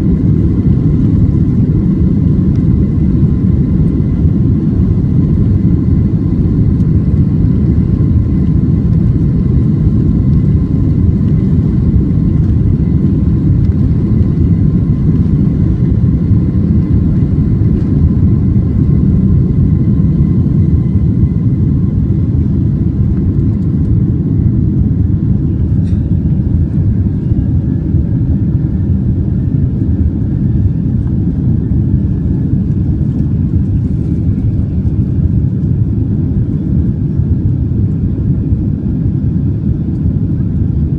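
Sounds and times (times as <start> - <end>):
faint steady whine: 0.0 - 40.9
jet engines deep rumble: 0.0 - 40.9.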